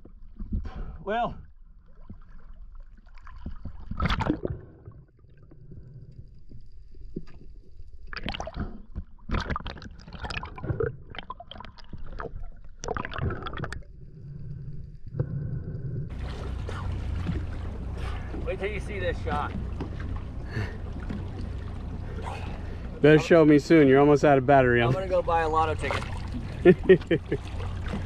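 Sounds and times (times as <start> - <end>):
sea water sloshing and splashing: 0.0 - 28.0.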